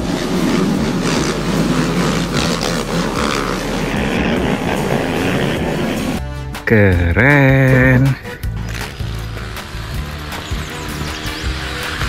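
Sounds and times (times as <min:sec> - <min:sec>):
quad engines running: 0:00.0 - 0:06.2, 0:07.6 - 0:12.0.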